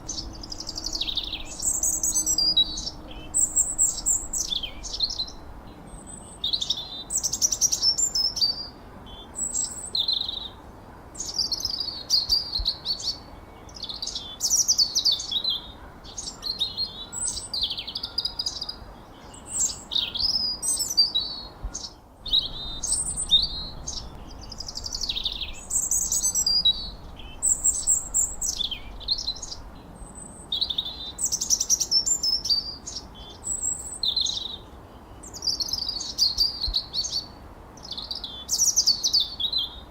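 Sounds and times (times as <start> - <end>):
faint steady hiss: 0.0 - 17.5, 18.4 - 39.9
songbirds chirping and whistling: 0.0 - 39.9.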